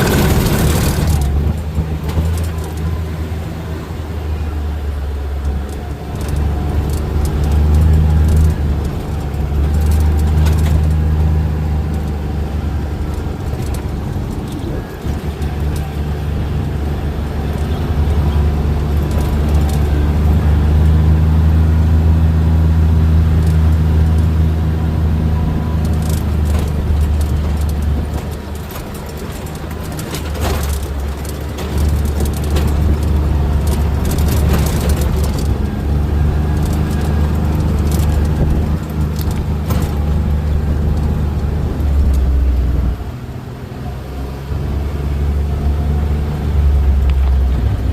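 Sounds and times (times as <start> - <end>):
vehicle engine low drone: 0.0 - 47.9.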